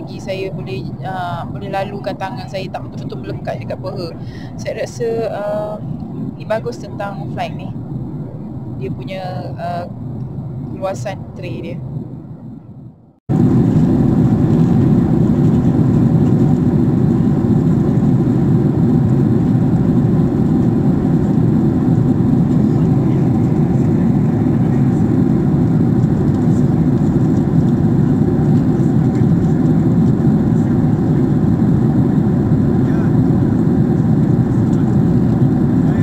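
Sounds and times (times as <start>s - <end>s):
airliner cabin drone: 0.0s - 36.0s.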